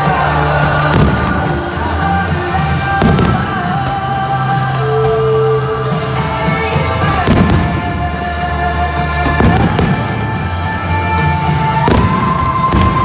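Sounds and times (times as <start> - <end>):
fireworks bangs: 0.0 - 13.0
loud music: 0.0 - 13.0.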